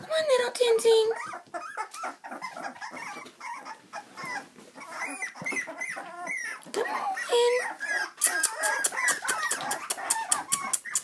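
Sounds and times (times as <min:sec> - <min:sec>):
puppies whimpering and squeaking: 0:00.0 - 0:11.0
small rustles: 0:00.8 - 0:11.0.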